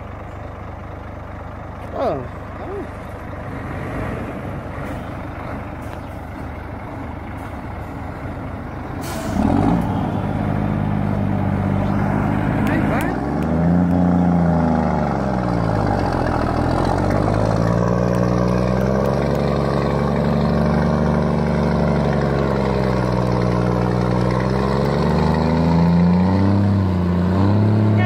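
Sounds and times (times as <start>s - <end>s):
heavy vehicle engine revving: 0.0s - 28.0s.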